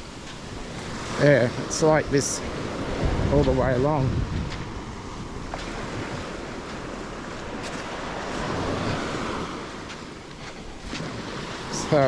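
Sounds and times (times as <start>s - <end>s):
waves on a rocky shore: 0.0s - 12.0s
wind buffeting microphone: 0.0s - 12.0s.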